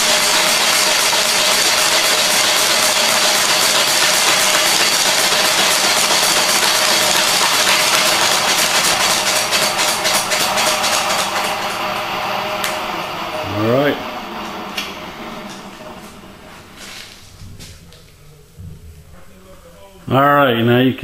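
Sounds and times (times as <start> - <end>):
boring machine hum and whine: 0.0 - 20.2.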